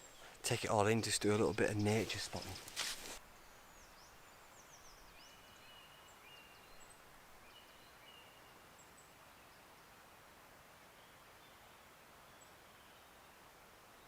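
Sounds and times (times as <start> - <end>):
low hiss: 0.0 - 14.0
songbirds chirping: 0.0 - 14.0.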